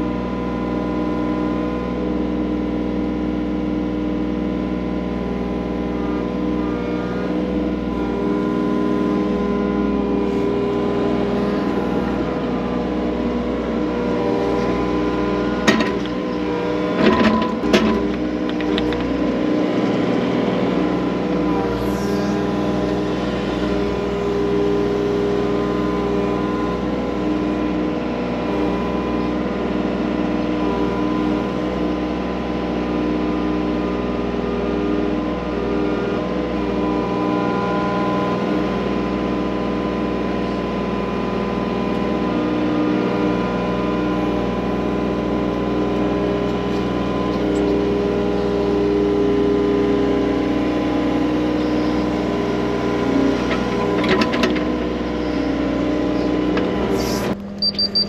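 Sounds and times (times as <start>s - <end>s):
skid loader engine running: 0.0s - 58.0s.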